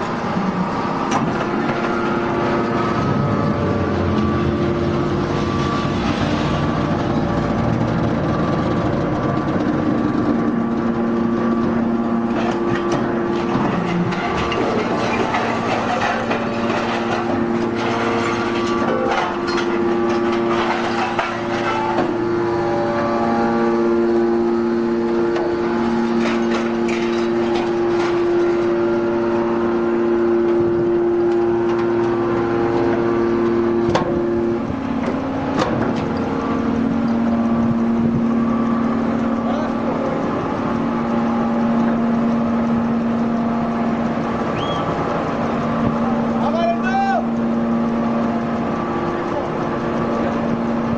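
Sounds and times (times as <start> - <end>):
hydraulic pump hum: 0.0 - 50.9.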